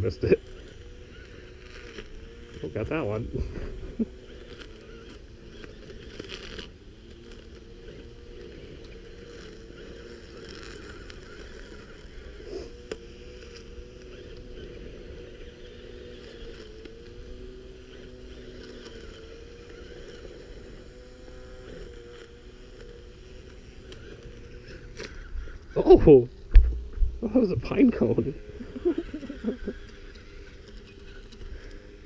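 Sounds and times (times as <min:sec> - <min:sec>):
small motor whining: 0:00.0 - 0:32.0.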